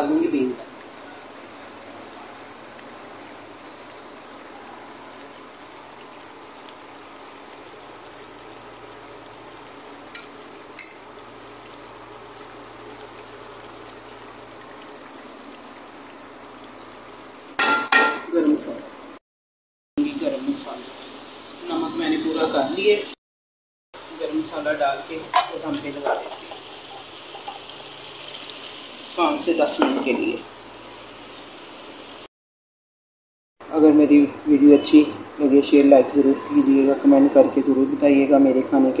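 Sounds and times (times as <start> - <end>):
curry hissing in a pot: 0.0 - 19.2, 20.0 - 23.2, 24.0 - 32.3, 33.6 - 39.0.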